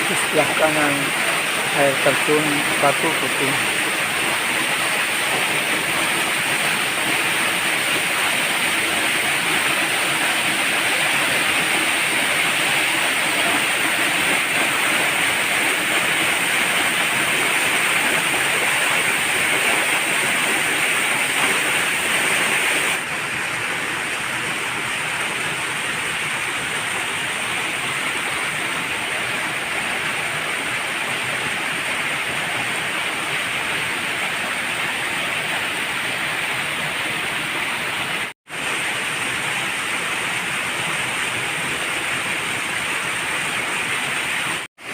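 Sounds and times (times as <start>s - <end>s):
waterfall roaring: 0.0s - 44.9s.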